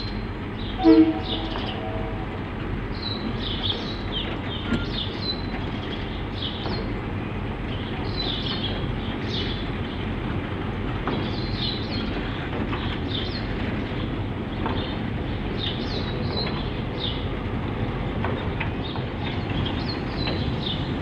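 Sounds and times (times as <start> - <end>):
diesel locomotives rumbling: 0.0 - 21.0.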